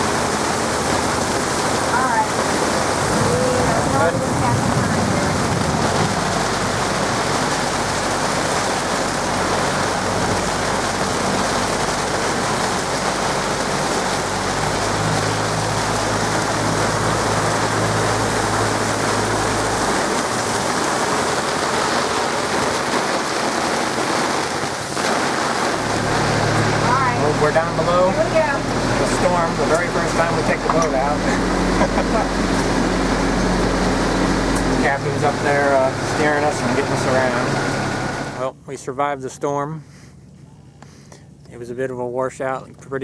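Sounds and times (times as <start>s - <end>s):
heavy rain pouring: 0.0s - 38.5s
low hum: 0.0s - 41.6s.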